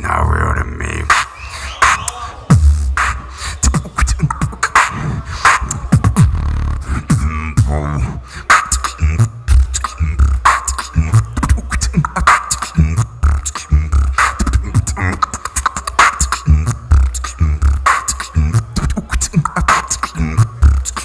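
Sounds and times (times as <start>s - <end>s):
beatboxing through microphone: 0.0s - 21.0s.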